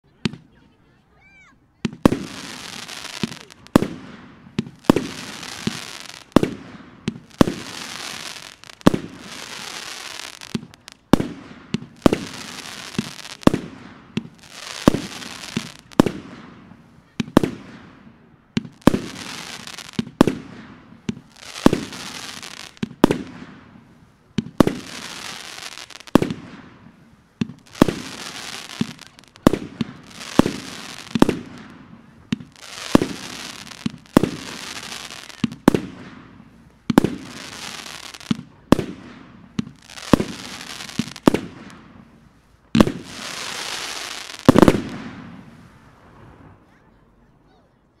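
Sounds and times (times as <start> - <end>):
hissing crackling firework trail: 0.1 - 46.8
firework bangs: 1.8 - 46.8.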